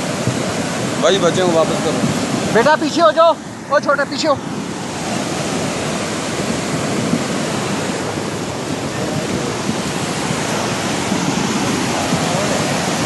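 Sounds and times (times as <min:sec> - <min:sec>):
river rushing in flood: 0:00.0 - 0:13.0.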